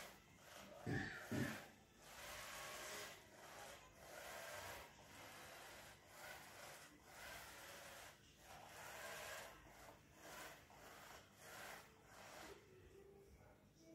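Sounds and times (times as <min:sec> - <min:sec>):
small motors whirring: 0:00.0 - 0:13.2.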